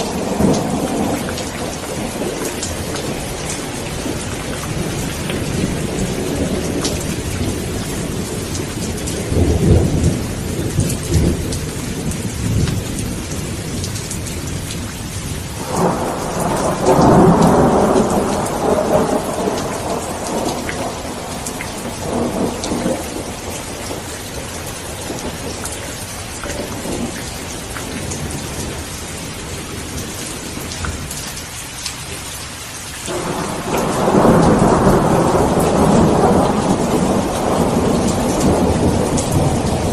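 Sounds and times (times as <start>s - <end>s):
rolling thunder: 0.0s - 31.2s, 33.1s - 39.9s
steady rain falling: 0.0s - 39.9s.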